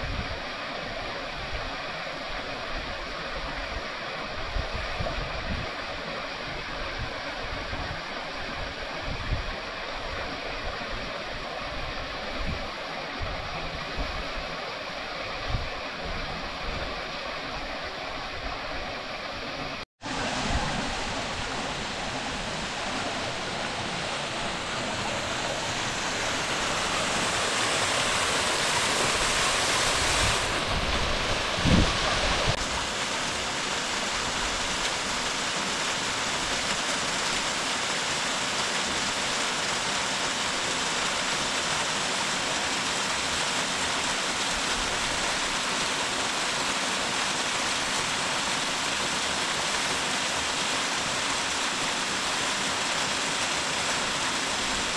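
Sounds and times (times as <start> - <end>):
water rushing and splashing: 0.0 - 54.9.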